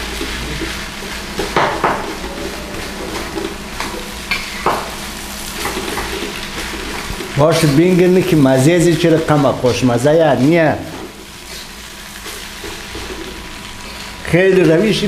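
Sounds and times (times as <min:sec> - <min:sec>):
frying sizzle: 0:00.0 - 0:15.0.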